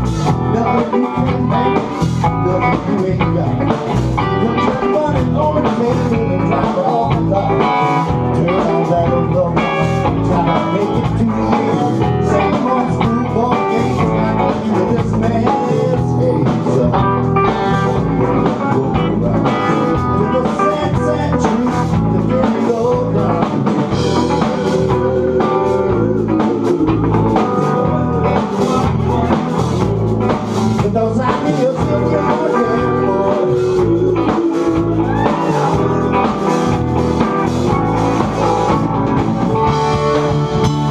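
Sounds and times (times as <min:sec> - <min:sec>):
amplified electric guitars: 0:00.0 - 0:40.9
drum kit steady beat: 0:00.0 - 0:40.9.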